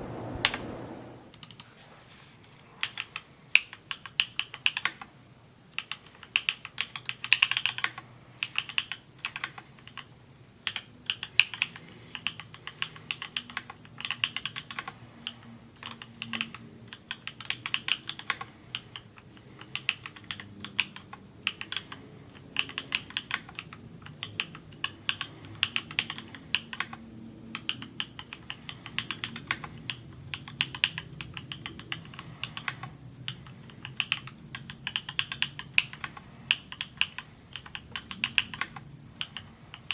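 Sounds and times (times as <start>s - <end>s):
mechanical keyboard typing: 1.3s - 1.6s, 2.8s - 5.1s, 5.7s - 39.9s.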